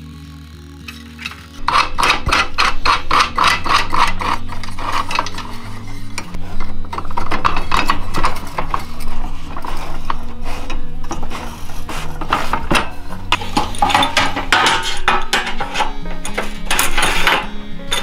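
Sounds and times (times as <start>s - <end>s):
background music: 0.0s - 18.0s
metal scraping and clicking: 0.8s - 18.0s.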